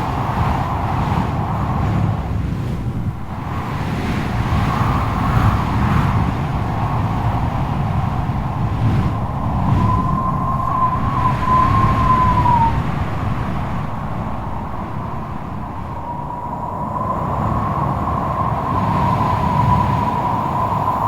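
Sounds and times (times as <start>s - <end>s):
strong wind blowing: 0.0s - 21.0s
wavering wind whistle: 3.0s - 21.0s.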